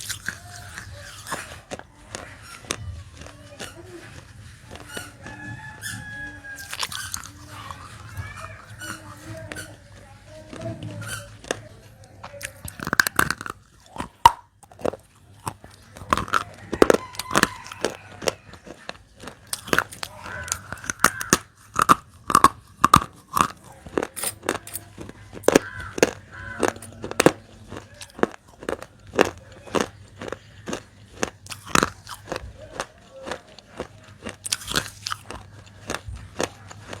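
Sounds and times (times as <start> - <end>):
crunchy biting and chewing: 0.0 - 37.0.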